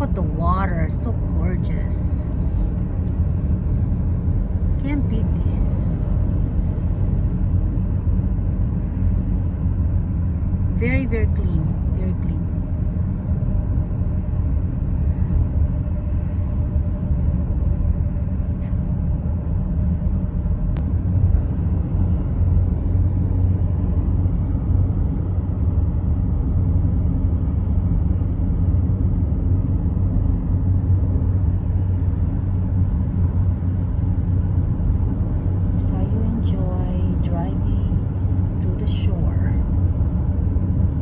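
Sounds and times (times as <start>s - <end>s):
car cabin road rumble: 0.0s - 41.0s.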